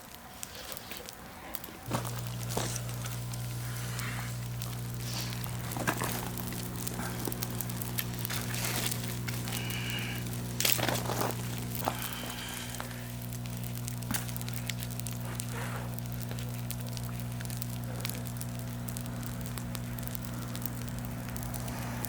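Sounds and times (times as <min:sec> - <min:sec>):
steady low hum: 0:00.0 - 0:22.0
wood fire crackling and popping: 0:00.0 - 0:22.0.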